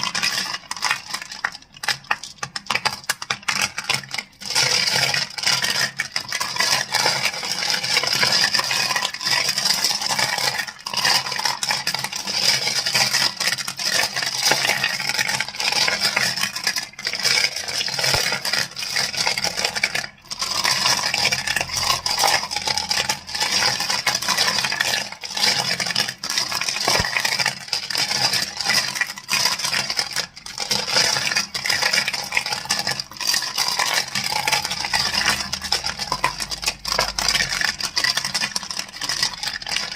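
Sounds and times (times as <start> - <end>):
crystals clicking and clacking: 0.0 - 39.9.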